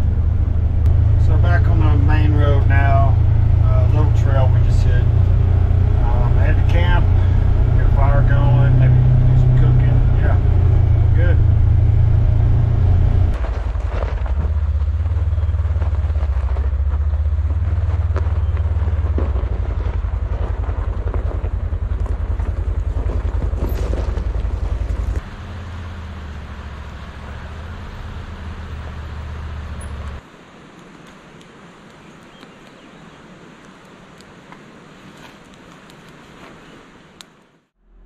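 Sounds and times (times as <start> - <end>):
vehicle engine rumble: 0.0 - 38.0.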